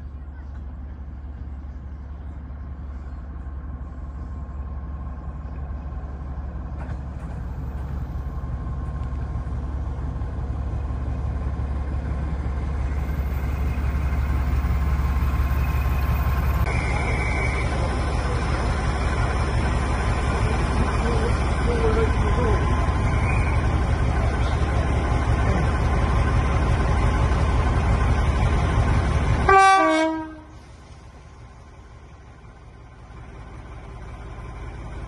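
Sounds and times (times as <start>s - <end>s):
diesel train engine rumbling: 0.0s - 35.0s.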